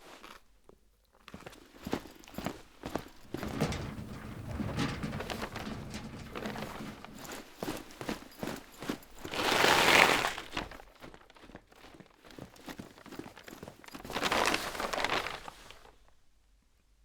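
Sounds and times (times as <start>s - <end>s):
light knocks and crinkles: 1.3s - 15.9s.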